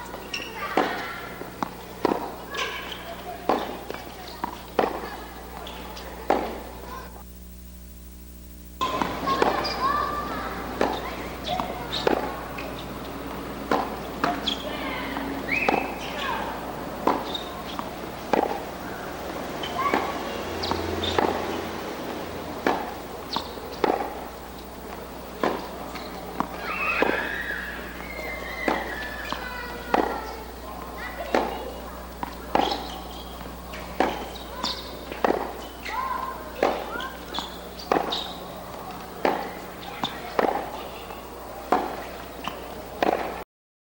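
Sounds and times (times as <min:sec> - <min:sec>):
tennis balls bouncing on hard court: 0:00.0 - 0:07.1, 0:08.8 - 0:43.4
tennis balls hit by rackets: 0:00.0 - 0:07.2, 0:08.8 - 0:43.4.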